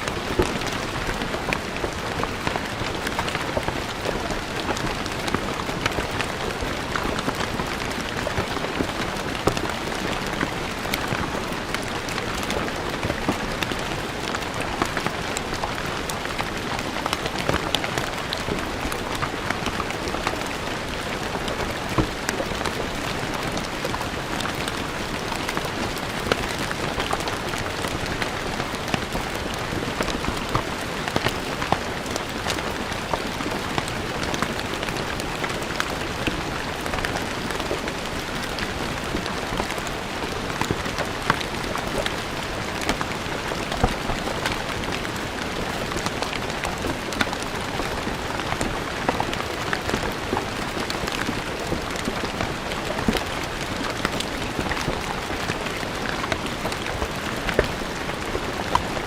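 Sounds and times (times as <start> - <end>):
rain falling on stone paving: 0.0 - 59.0.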